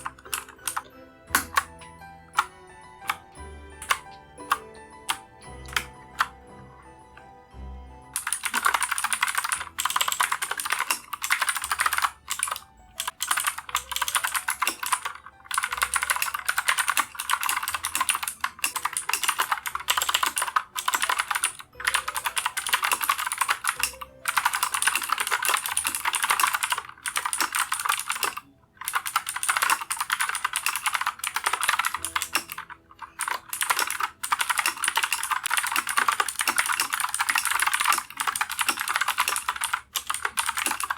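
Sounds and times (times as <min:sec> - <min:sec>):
mechanical keyboard typing: 0:00.0 - 0:06.4, 0:08.1 - 0:40.9.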